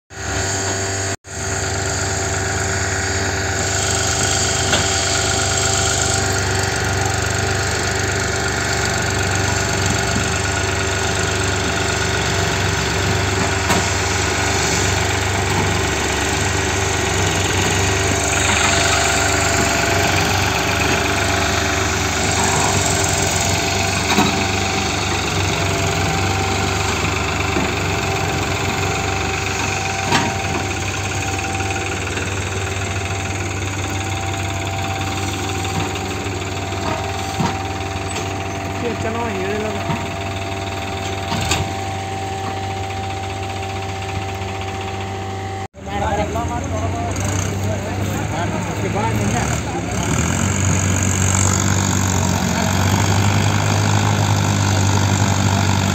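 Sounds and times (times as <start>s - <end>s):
tractor diesel engine under load: 0.1s - 55.9s.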